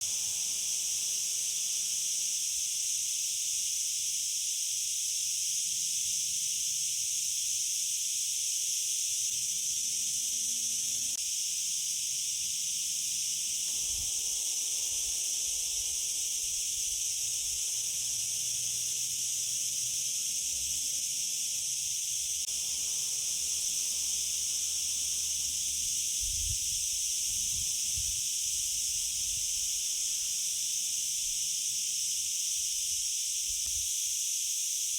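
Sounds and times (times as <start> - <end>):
insects chorus shrill hiss: 0.0 - 34.9.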